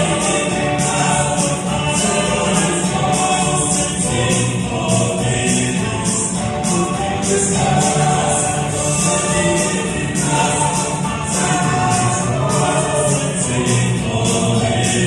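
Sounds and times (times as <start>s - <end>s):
instrumental backing with beat: 0.0s - 15.0s
vocal quartet singing gospel: 0.0s - 15.0s.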